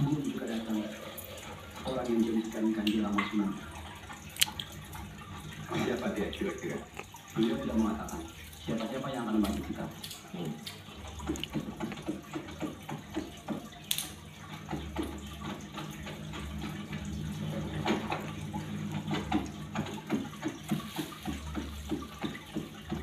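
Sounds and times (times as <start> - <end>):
water bubbling and trickling: 0.0 - 23.0.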